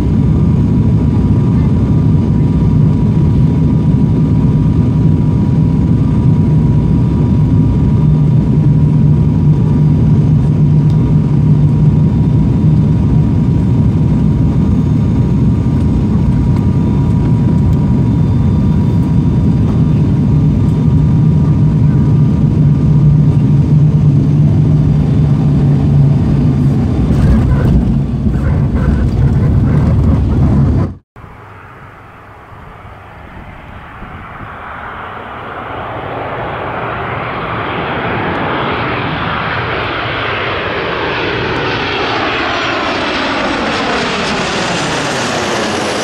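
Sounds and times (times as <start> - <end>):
jet airliner passing overhead: 0.0 - 46.0
propeller and engine drone: 0.0 - 46.0.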